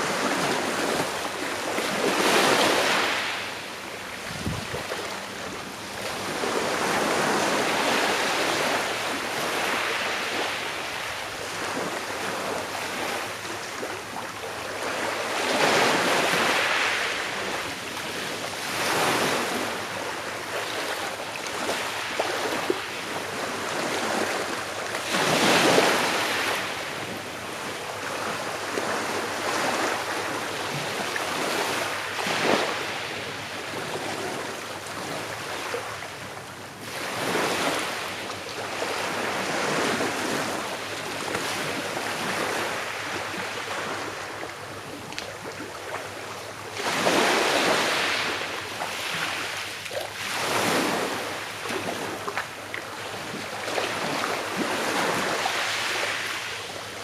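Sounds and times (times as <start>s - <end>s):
small sea waves lapping on shore: 0.0s - 57.0s.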